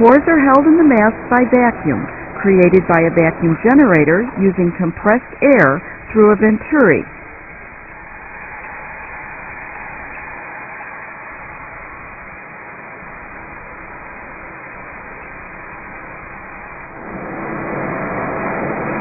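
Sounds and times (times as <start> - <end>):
machinery hissing: 0.0 - 19.0.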